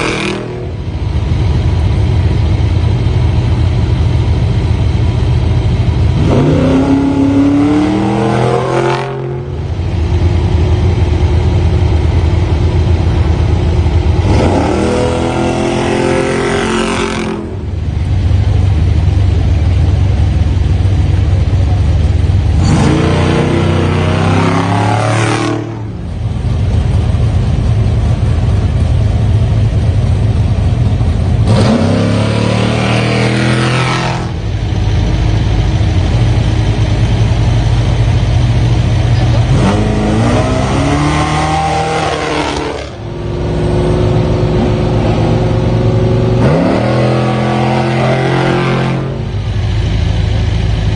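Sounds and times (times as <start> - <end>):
truck engine revving and accelerating: 0.0 - 50.9
trucks idling: 0.0 - 50.9.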